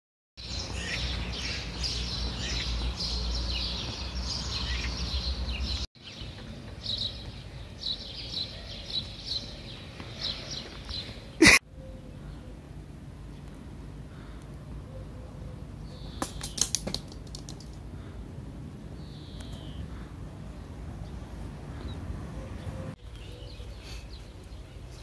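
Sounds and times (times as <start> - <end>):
small birds chirping: 0.4 - 18.2, 18.9 - 25.0.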